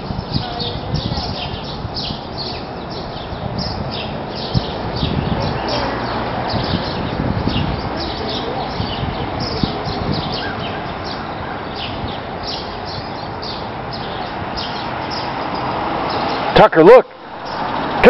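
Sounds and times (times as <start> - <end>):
background rushing noise: 0.0 - 18.0
birds chirping: 0.0 - 18.0.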